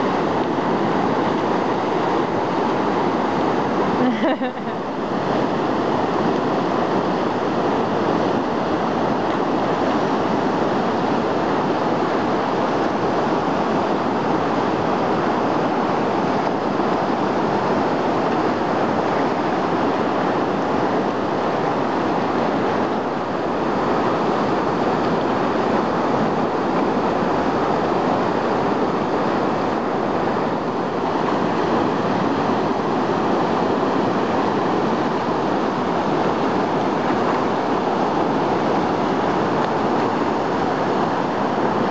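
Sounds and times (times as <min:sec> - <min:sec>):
river rapid rushing: 0:00.0 - 0:41.9.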